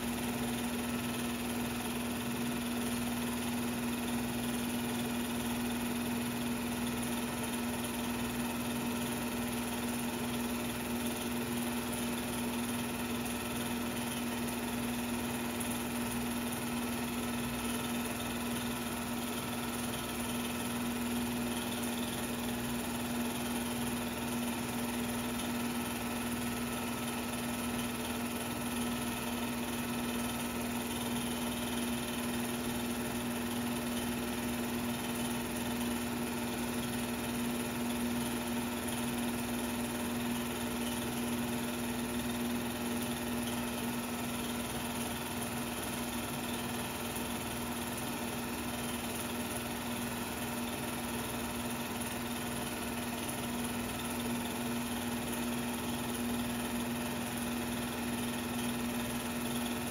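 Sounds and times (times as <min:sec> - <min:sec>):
projector motor and fan humming: 0:00.0 - 0:59.9.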